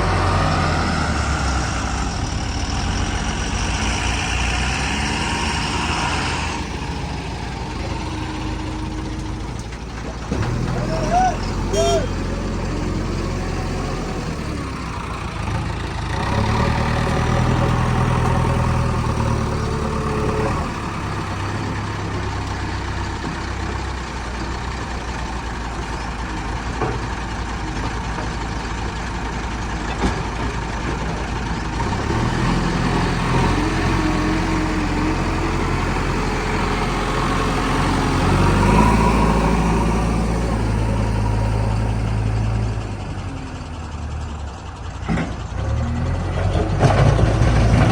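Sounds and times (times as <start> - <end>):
backhoe diesel engine running: 0.0 - 47.9.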